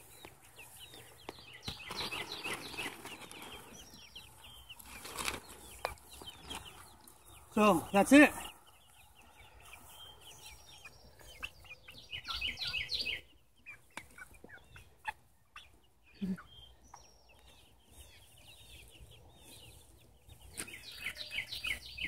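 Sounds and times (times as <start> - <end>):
hens clucking and chirping: 0.0 - 22.0.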